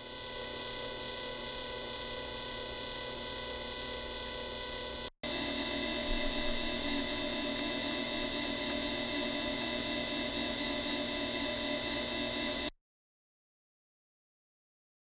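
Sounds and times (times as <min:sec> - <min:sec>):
lathe motor whining: 0:00.0 - 0:12.7.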